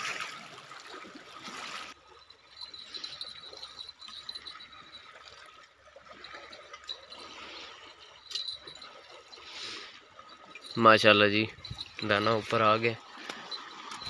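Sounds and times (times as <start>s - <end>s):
small waves lapping on stones: 0.0s - 14.0s.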